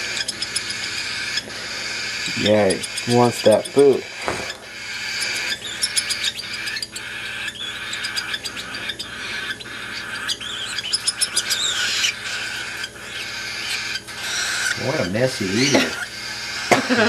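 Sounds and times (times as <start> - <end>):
bird chick begging calls: 0.0 - 16.8.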